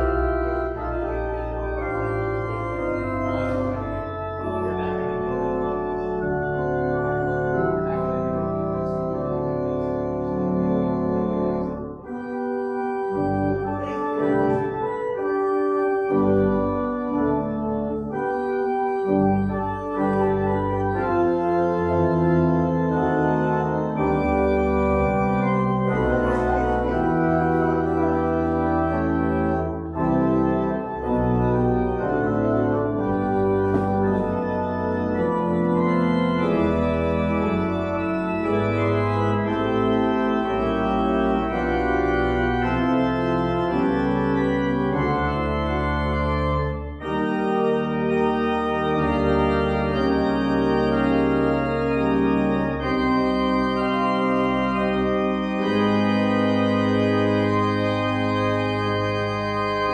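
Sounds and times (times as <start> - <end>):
organ playing held chords: 0.0 - 59.9.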